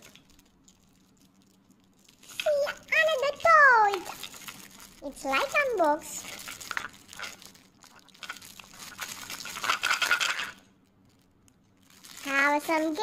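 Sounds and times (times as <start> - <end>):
plastic shrink-wrap crinkling: 0.0 - 13.0.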